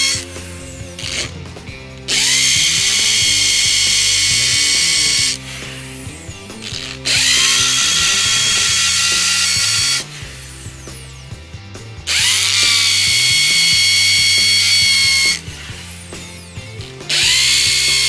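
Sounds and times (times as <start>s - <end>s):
electric drill running: 0.0s - 1.4s, 2.1s - 11.3s, 12.1s - 18.0s.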